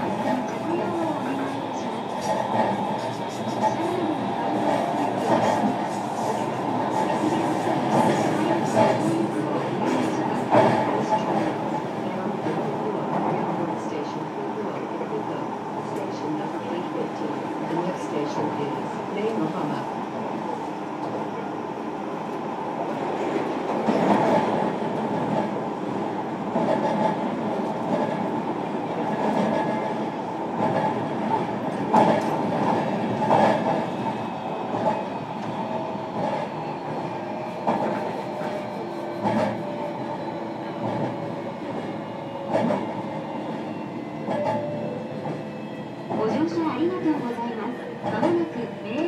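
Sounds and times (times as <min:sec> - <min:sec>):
electric train rumbling: 0:00.0 - 0:49.0.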